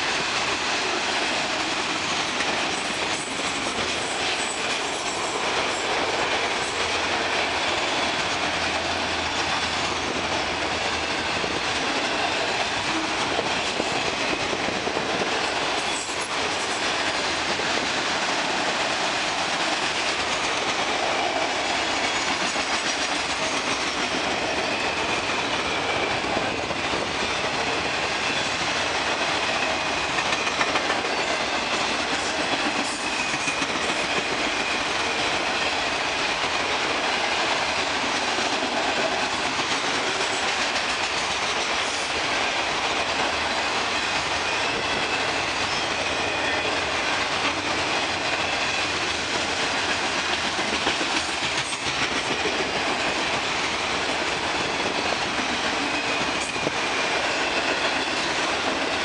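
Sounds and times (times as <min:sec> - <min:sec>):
steel wheels clattering on rails: 0:00.0 - 0:59.0.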